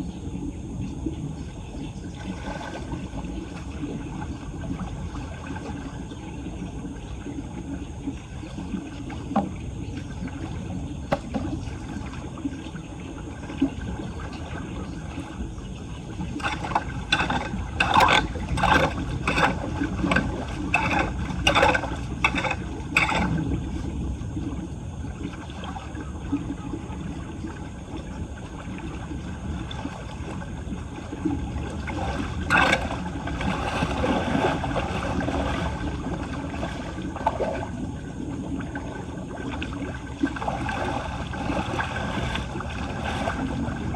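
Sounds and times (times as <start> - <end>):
water rushing into drain: 7.4 - 24.5, 25.1 - 43.9.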